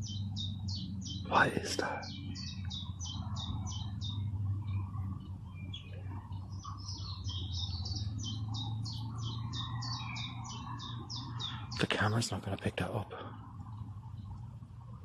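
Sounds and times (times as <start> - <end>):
small bird chirping: 0.0 - 12.4
low steady hum: 0.0 - 15.0.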